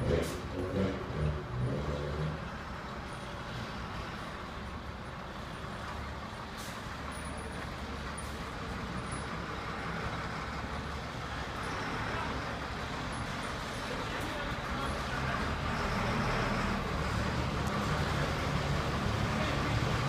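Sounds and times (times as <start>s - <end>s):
fire engine rumbling low: 0.0s - 20.0s.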